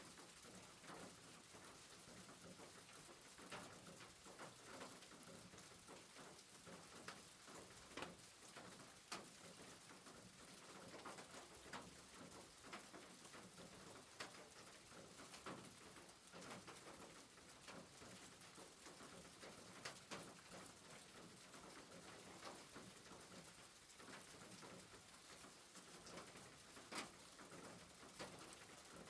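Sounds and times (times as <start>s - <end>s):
faint rain hiss on roof: 0.0s - 29.0s.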